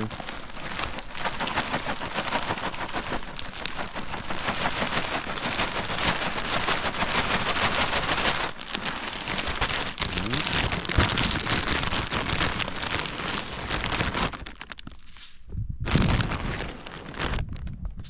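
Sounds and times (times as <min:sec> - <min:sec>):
seeds pattering on ground: 0:00.0 - 0:17.6.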